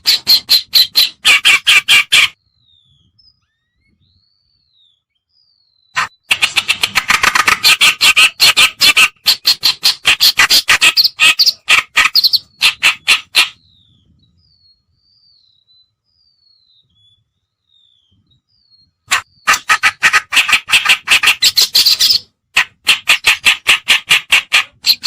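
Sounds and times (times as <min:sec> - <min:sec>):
warbler harsh chattering song: 0:00.0 - 0:03.2, 0:05.4 - 0:17.2, 0:17.8 - 0:25.0.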